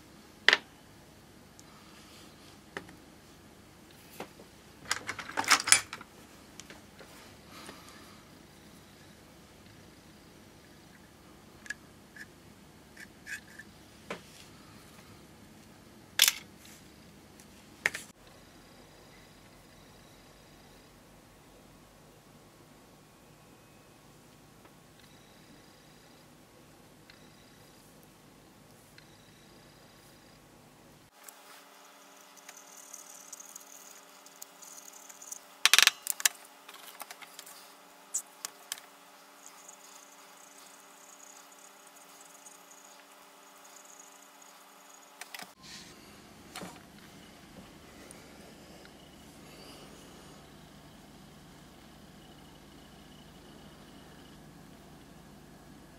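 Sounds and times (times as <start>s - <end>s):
steady low hum: 5.7s - 55.9s.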